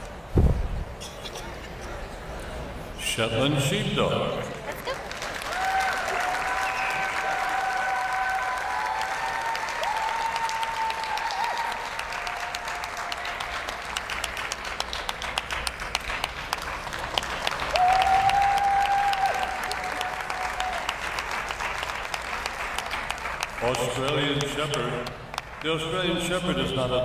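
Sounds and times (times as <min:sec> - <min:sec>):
audience applauding: 0:04.7 - 0:26.4.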